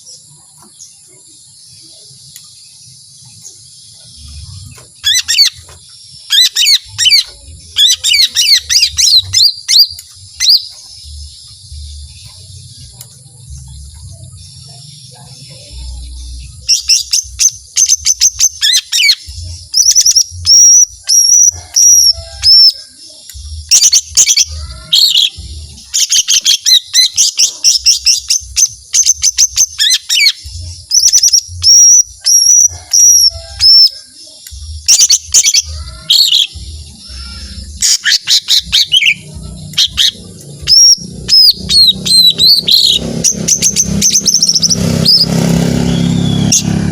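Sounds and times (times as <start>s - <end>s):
bird chattering and whistling: 0.0s - 46.9s.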